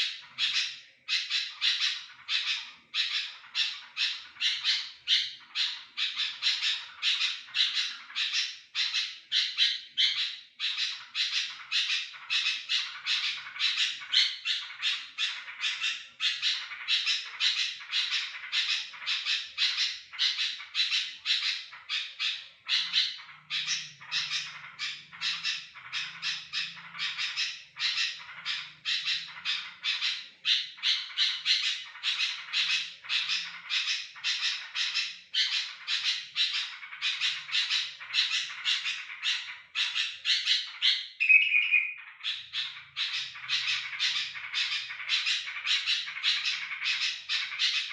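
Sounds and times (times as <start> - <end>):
bulbul calling rapidly: 0.0 - 47.9.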